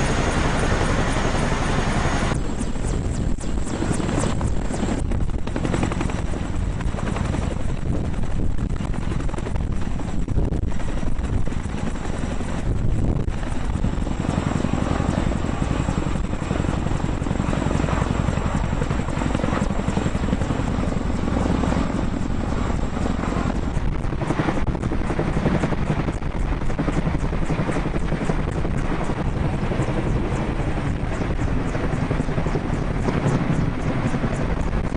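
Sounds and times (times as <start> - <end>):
helicopter rotor chop: 0.0 - 34.9
high turbine whine: 0.0 - 34.9.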